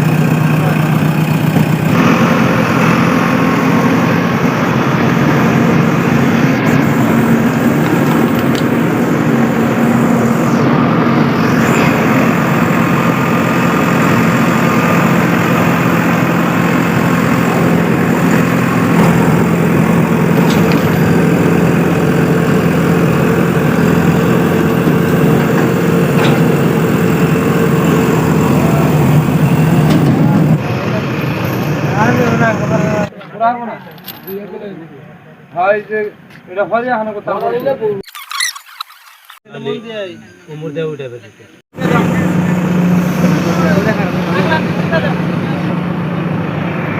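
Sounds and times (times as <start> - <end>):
heavy diesel engine running: 0.0 - 33.1, 41.7 - 46.9.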